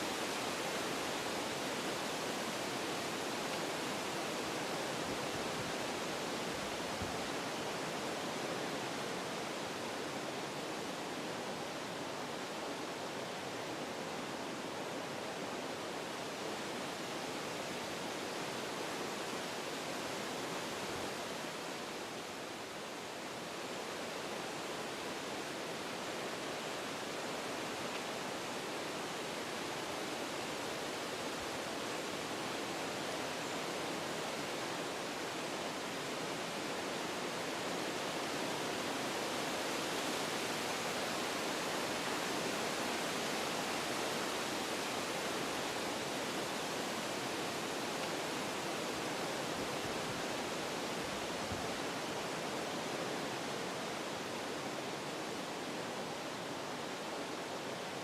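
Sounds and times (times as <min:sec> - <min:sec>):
wind blowing through trees: 0:00.0 - 0:58.0.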